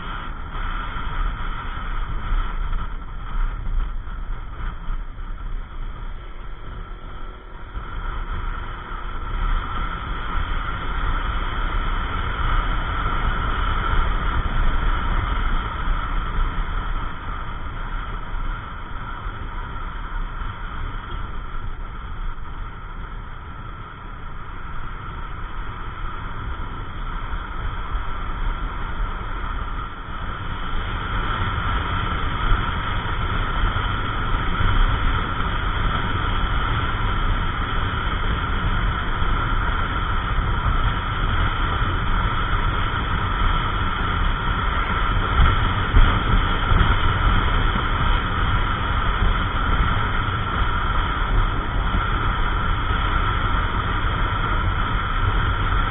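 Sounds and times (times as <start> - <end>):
scooter engine running: 0.0 - 55.9
wind rushing over microphone: 0.0 - 55.9.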